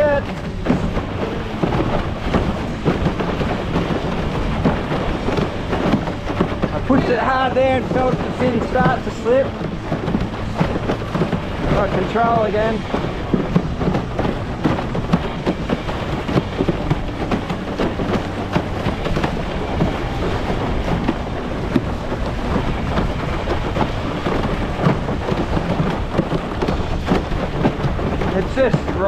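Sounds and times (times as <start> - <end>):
water splashing against board: 0.0 - 29.0
wind rushing over microphone: 0.0 - 29.0.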